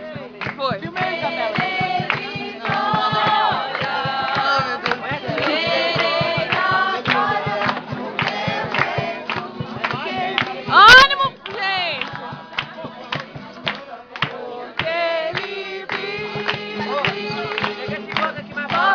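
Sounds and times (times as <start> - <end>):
steady rhythmic beat: 0.0 - 18.9
group of voices singing: 0.8 - 18.9.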